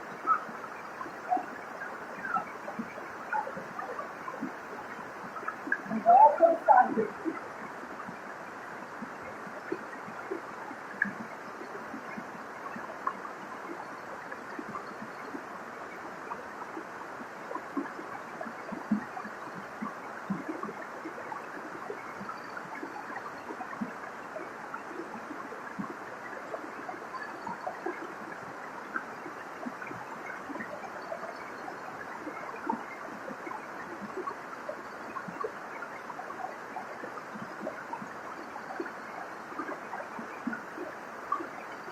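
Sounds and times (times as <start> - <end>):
water splashes: 0.0 - 41.9.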